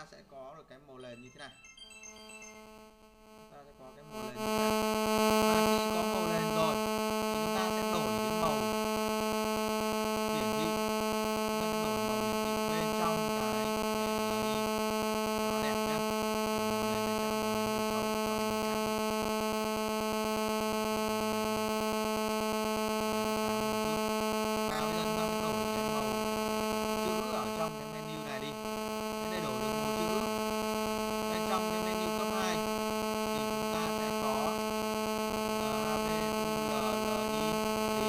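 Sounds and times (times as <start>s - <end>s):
steady electrical hum: 2.3s - 38.0s.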